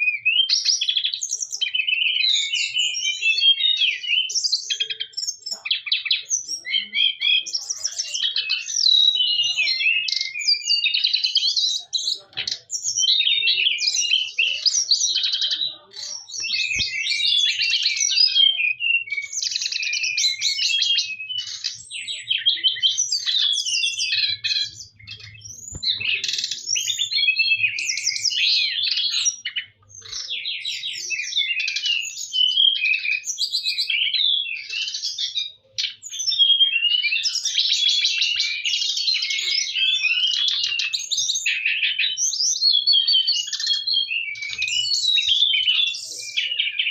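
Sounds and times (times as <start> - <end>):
bird singing chattering song: 0.0 - 46.9.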